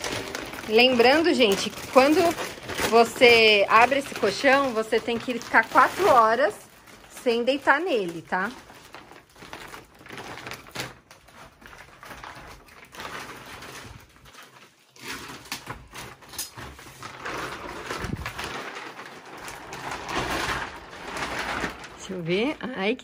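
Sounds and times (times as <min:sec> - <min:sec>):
plastic wrap crinkling: 0:00.0 - 0:23.0.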